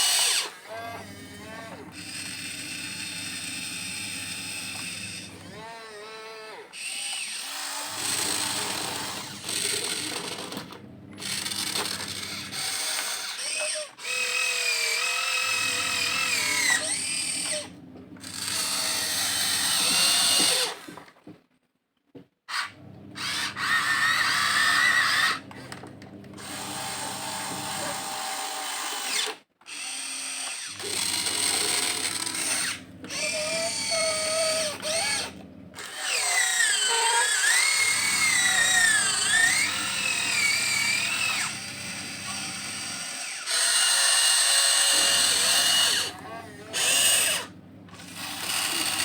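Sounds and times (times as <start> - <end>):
toy excavator motors whining: 0.0 - 21.2, 22.5 - 49.0.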